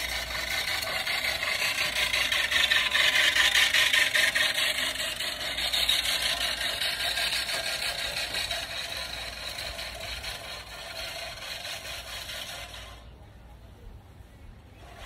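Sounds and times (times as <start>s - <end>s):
reel mower clicking whir: 0.0s - 13.2s, 14.8s - 15.0s.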